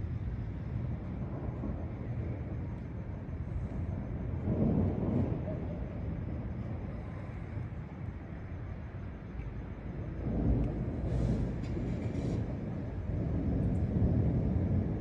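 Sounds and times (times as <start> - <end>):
distant thunder rumbling: 0.0 - 15.0.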